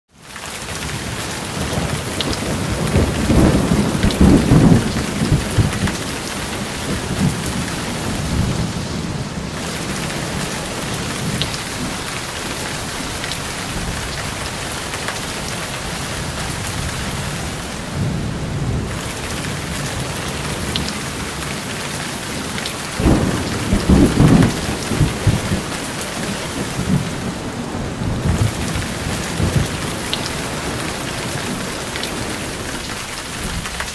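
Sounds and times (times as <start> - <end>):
steady rain falling: 0.1 - 33.9
thunder rumbling: 0.8 - 21.5, 22.1 - 33.9.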